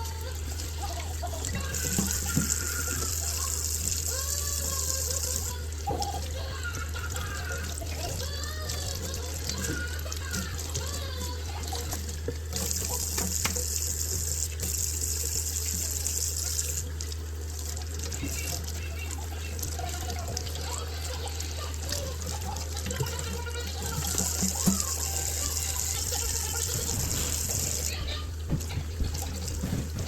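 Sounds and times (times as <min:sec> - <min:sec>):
tap running into sink: 0:00.8 - 0:20.8, 0:21.9 - 0:30.0.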